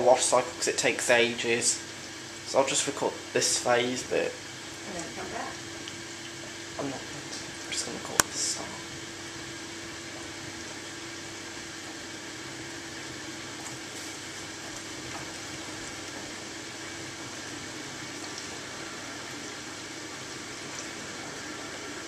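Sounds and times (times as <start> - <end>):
dishwasher low hum: 0.0 - 22.0.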